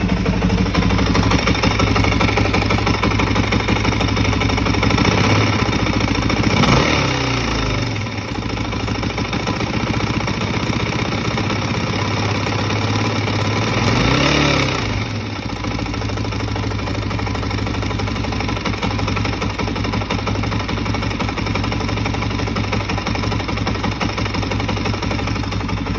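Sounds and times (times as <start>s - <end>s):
engine knocking: 0.0s - 25.9s
motorcycle engine idling: 0.0s - 25.9s.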